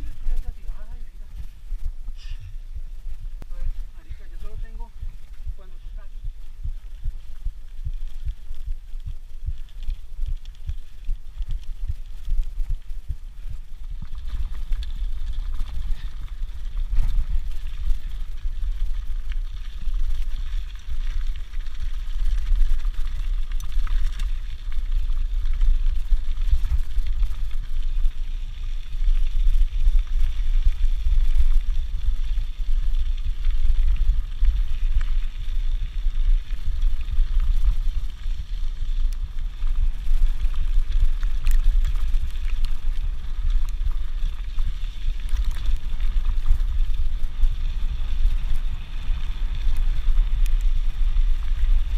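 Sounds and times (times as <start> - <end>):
bike rattles and clicks: 0.0 - 51.9
wind rumble on microphone: 0.0 - 51.9.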